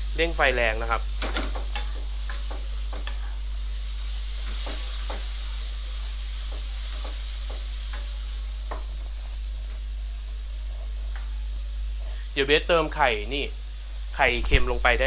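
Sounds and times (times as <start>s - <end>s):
squid sizzling in oil: 0.0s - 14.2s
steady low hum: 0.0s - 15.0s.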